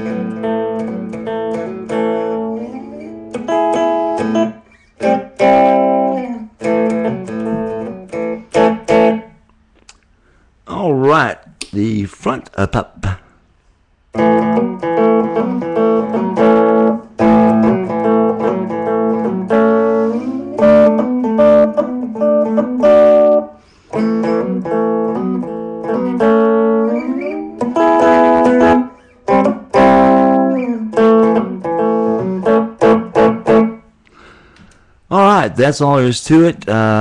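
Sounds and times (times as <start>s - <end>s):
electric guitar strummed and picked: 0.0s - 9.4s, 14.1s - 34.4s.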